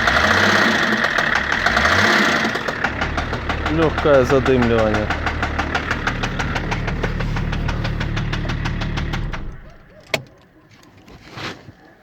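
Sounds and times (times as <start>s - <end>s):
diesel engine idling with knock: 0.0s - 10.2s.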